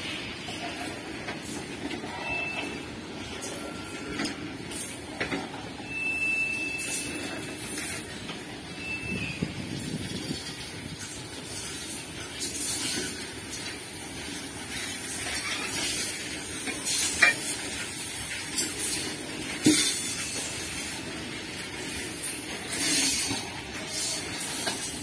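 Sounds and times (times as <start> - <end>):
steel wheels hissing on rails: 0.0 - 25.0.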